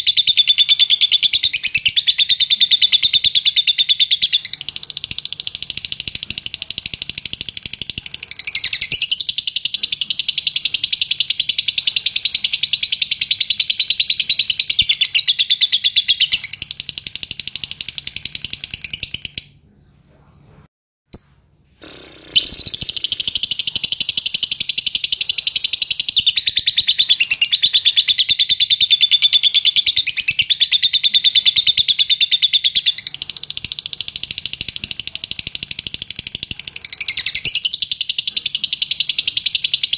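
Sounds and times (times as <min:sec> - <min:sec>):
lovebird high-pitched chatter: 0:00.0 - 0:19.6, 0:21.1 - 0:39.9.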